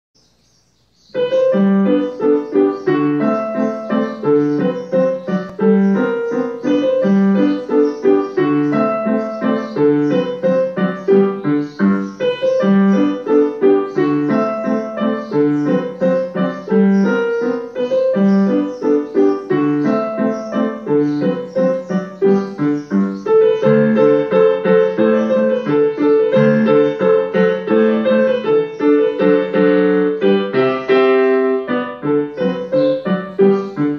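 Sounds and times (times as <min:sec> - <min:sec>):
piano music: 0:01.0 - 0:33.9.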